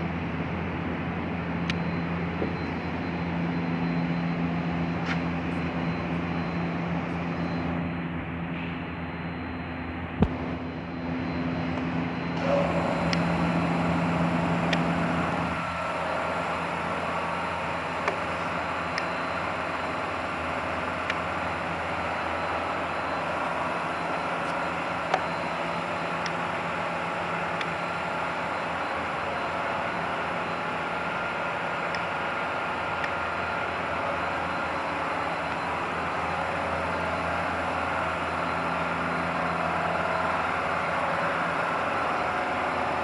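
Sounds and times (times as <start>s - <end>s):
mechanical hum and whir: 0.0s - 43.0s.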